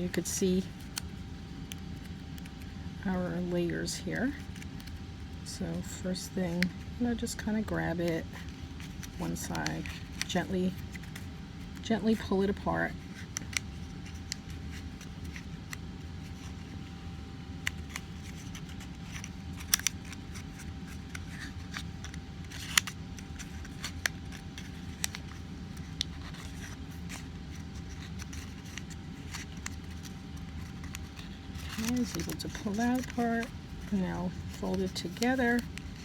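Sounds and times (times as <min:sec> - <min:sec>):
paper crinkling and crackling: 0:00.0 - 0:36.0
steady low hum: 0:00.0 - 0:36.0.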